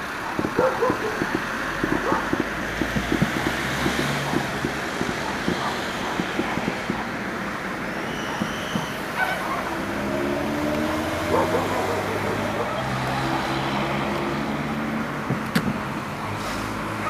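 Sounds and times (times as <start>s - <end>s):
distant fireworks popping: 0.0s - 17.0s
outdoor background noise: 0.0s - 17.0s.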